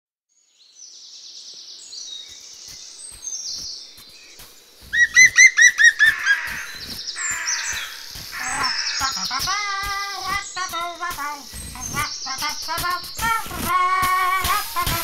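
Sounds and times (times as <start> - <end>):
birds singing trills: 0.3 - 15.0
bird whistling repeated notes: 2.7 - 15.0.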